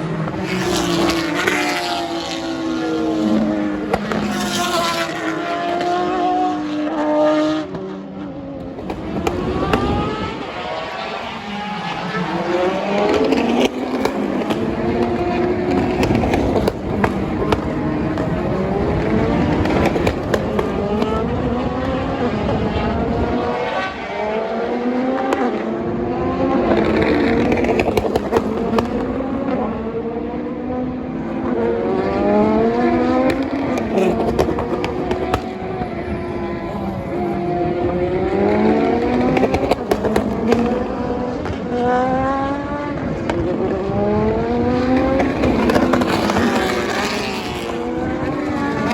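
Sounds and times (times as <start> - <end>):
race car engines accelerating: 0.0 - 48.9.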